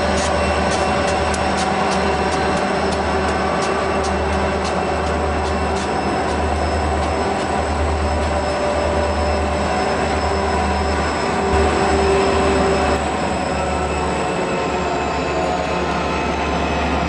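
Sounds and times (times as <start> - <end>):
diesel locomotive engine drone: 0.0 - 17.0
wheel squeal: 0.0 - 17.0.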